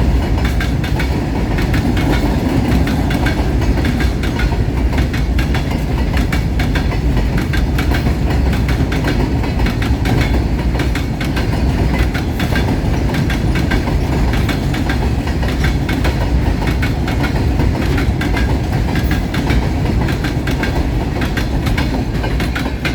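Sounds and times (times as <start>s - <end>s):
train wheels rumbling on track: 0.0s - 22.9s
wheels clicking over rail joints: 0.0s - 22.9s.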